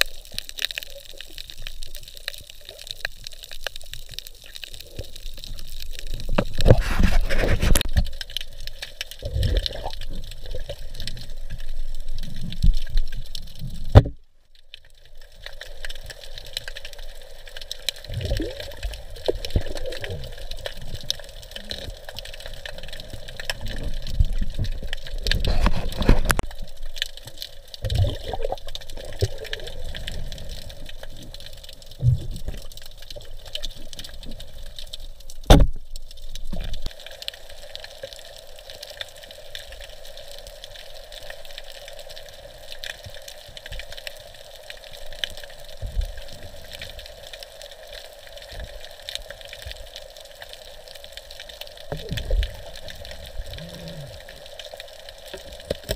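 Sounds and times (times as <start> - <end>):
underwater water noise: 0.0 - 55.9.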